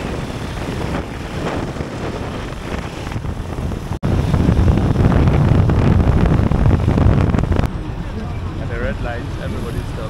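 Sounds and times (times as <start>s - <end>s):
road noise: 0.0s - 10.0s
wind rushing over microphone: 0.0s - 10.0s.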